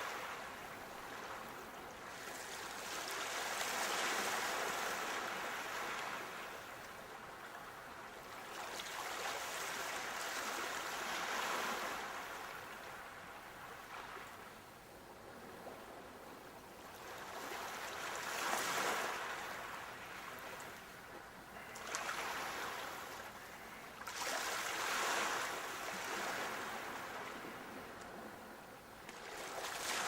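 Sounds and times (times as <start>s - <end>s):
sea waves breaking on shore: 0.0s - 14.6s, 16.8s - 30.0s.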